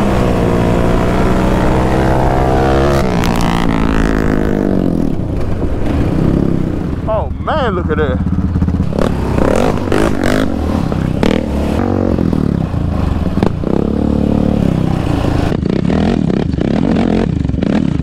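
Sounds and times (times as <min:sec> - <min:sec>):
quad engine revving: 0:00.0 - 0:06.9, 0:08.1 - 0:18.0
quad riding over gravel: 0:00.0 - 0:18.0.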